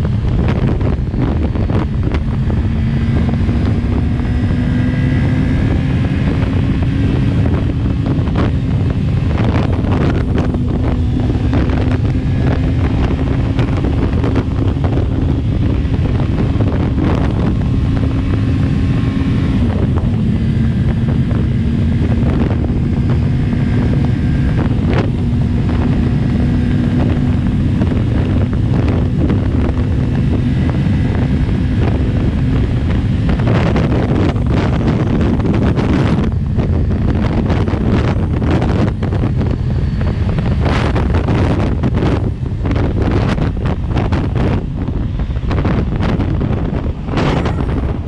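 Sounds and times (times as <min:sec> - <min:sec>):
motorcycle engine droning: 0:00.0 - 0:48.0
wind rush on microphone: 0:00.0 - 0:48.0.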